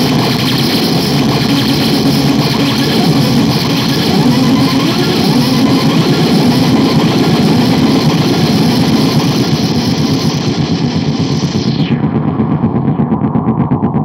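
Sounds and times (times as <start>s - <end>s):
distorted synth noise music: 0.0s - 14.0s.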